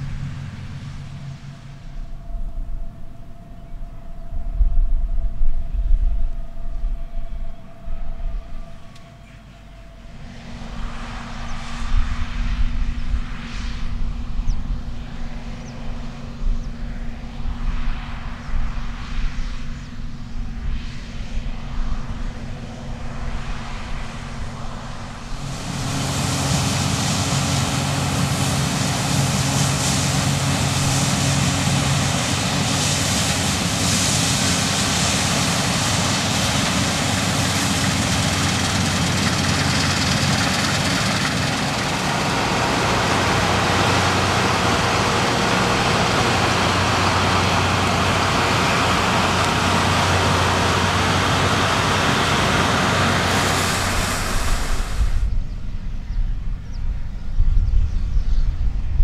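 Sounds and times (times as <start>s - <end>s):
mechanical rush of machinery: 0.0s - 56.7s
diesel engine drone: 0.0s - 59.0s.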